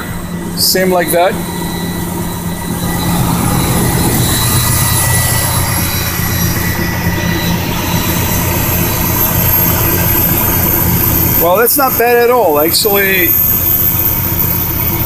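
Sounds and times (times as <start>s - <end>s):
truck diesel engine idling: 0.0s - 14.6s
faint high whine: 0.0s - 15.0s.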